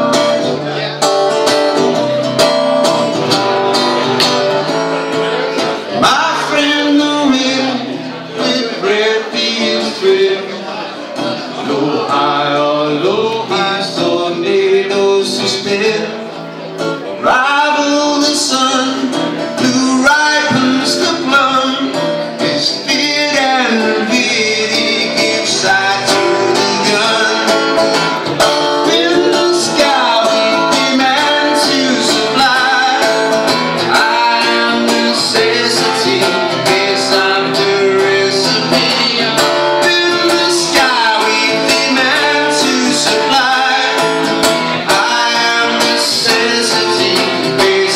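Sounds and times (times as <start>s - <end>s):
live country rock band: 0.0s - 47.9s.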